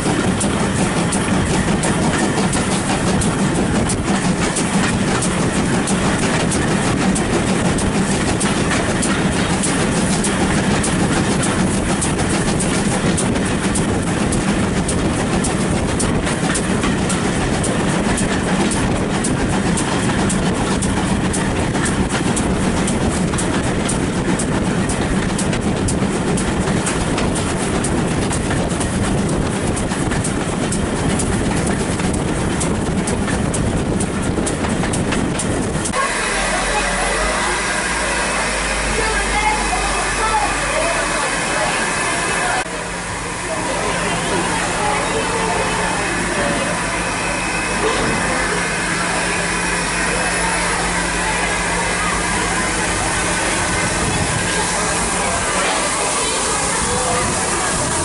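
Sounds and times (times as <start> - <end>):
steam train rumbling: 0.0 - 58.0
wheels clattering over rails: 0.0 - 58.0.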